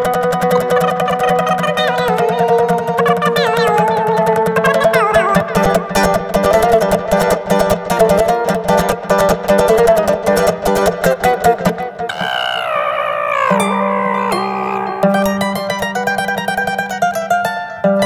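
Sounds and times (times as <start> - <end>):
plucked string instrument: 0.0 - 18.0.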